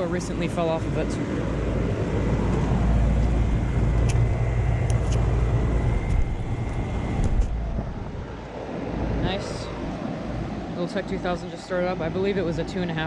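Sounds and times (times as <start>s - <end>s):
air conditioner low hum: 0.0s - 13.0s.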